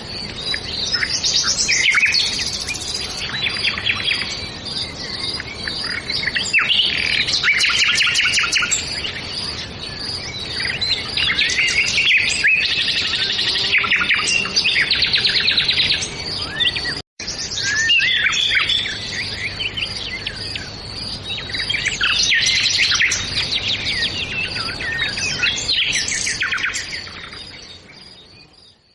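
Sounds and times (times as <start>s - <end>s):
birds chirping and trilling: 0.0s - 28.9s.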